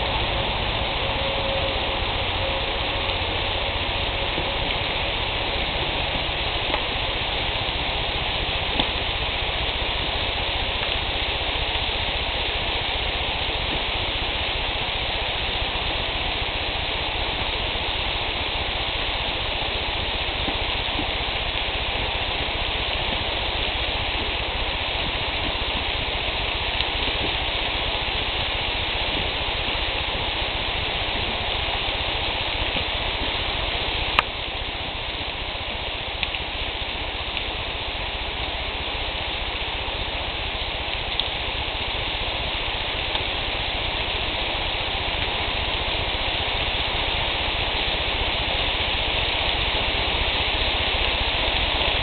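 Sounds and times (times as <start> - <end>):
meat sizzling on a grill: 0.0 - 52.0.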